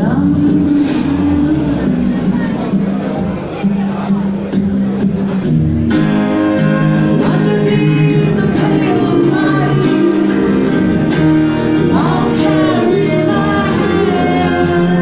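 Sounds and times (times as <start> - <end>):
person singing: 0.0 - 4.4, 6.7 - 15.0
live band playing: 0.0 - 15.0.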